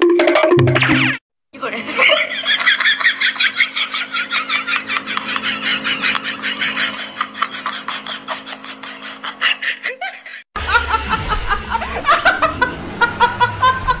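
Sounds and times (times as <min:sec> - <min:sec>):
young woman laughing: 0:01.6 - 0:14.0.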